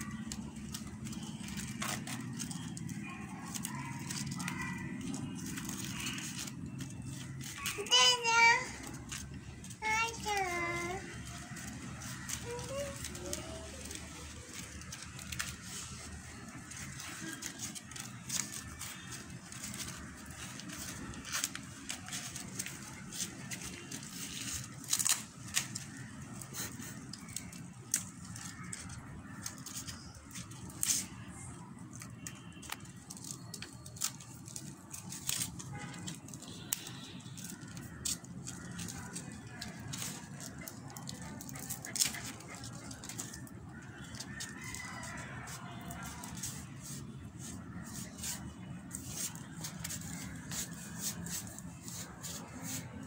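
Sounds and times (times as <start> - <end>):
corn husks tearing and crackling: 0.0 - 53.0.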